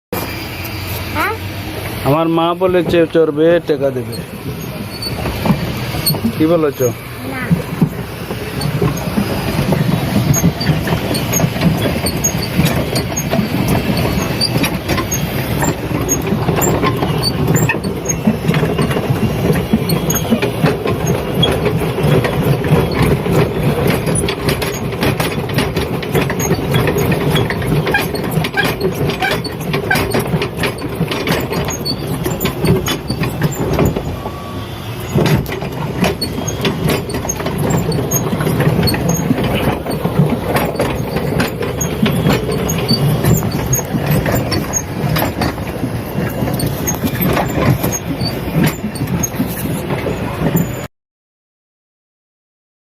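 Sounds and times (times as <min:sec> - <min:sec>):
motorboat engine running: 0:00.2 - 0:50.9.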